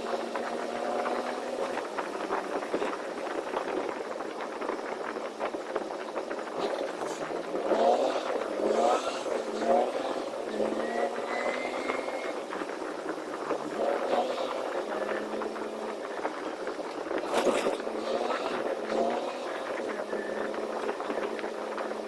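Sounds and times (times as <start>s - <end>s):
cab rattles: 0.0s - 22.0s
road noise: 0.0s - 22.0s
truck engine running: 0.0s - 22.0s.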